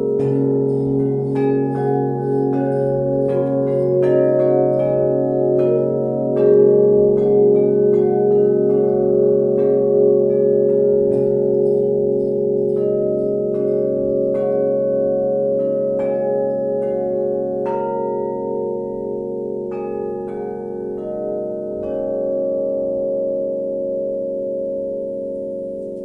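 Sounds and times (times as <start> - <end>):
metal bell plates struck with mallet: 0.0 - 24.3.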